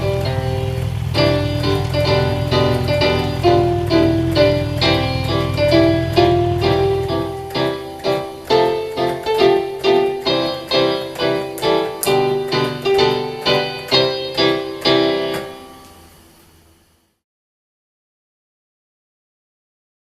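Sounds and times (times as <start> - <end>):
piano notes: 0.0 - 16.3.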